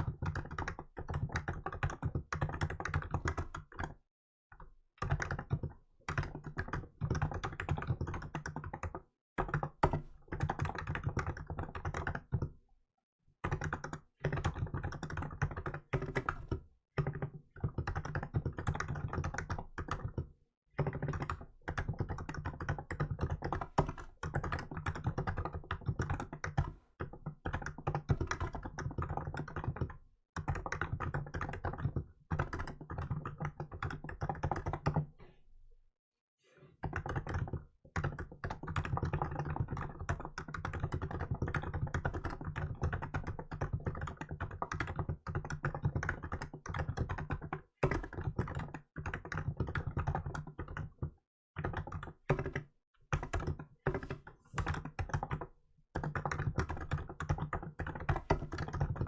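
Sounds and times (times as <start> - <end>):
keyboard typing: 0.1 - 4.0, 4.6 - 12.5, 13.4 - 35.1, 36.8 - 59.0.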